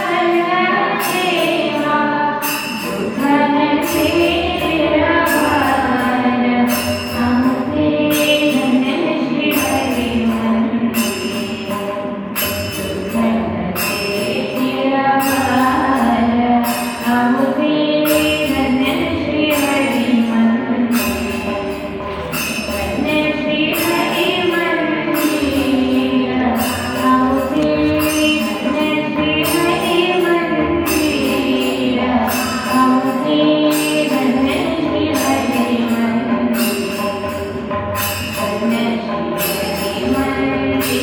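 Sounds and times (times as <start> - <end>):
jingling metallic percussion: 0.0 - 41.0.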